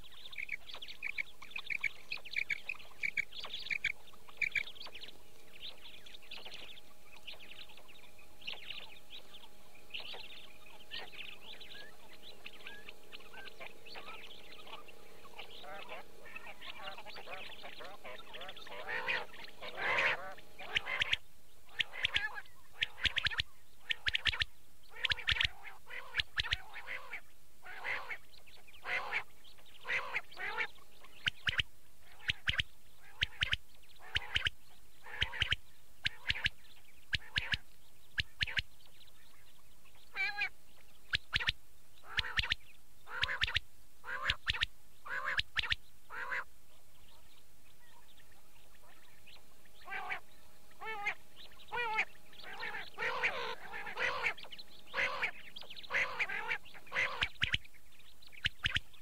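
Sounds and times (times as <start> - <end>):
quail calling: 0.0 - 59.0.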